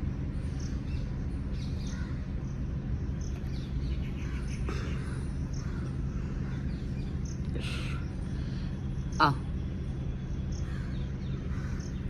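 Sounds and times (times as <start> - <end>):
small birds chirping faintly: 0.0 - 12.0
steady low rumble: 0.0 - 12.0.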